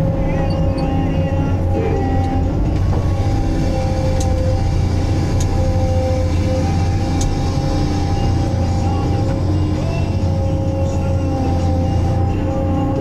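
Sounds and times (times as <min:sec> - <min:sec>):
low drone of hydraulic machine: 0:00.0 - 0:13.0.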